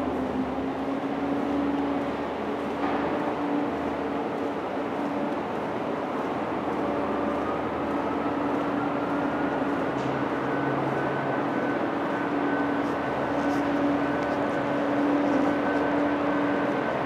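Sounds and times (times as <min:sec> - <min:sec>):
even rush of hall noise: 0:00.0 - 0:17.0
low steady hum: 0:00.0 - 0:17.0.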